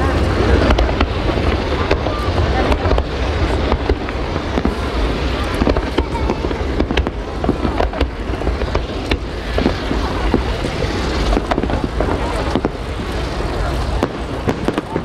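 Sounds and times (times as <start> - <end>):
fireworks cracking and banging: 0.0 - 15.0
low rumble: 0.0 - 15.0.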